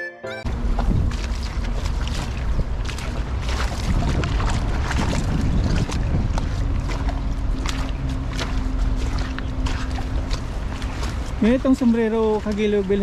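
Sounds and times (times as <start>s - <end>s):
wind rumbling on microphone: 0.5s - 13.0s.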